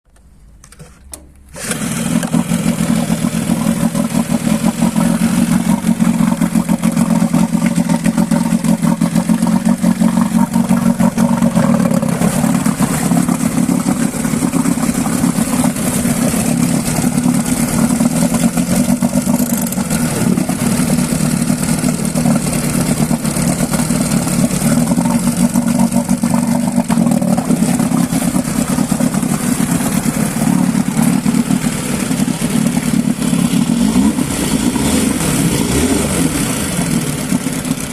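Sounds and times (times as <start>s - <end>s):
outboard motor starting and running: 0.2s - 37.9s.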